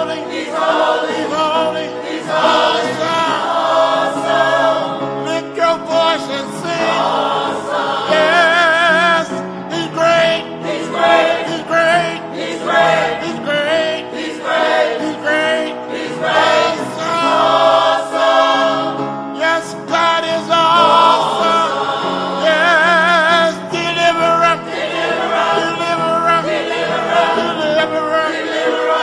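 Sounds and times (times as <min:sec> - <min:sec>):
gospel choir singing: 0:00.0 - 0:29.0
keyboard accompaniment: 0:00.0 - 0:29.0.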